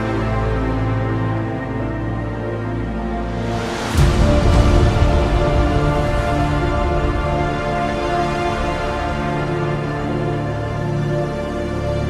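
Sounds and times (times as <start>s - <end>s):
moody soundtrack music: 0.0s - 12.0s.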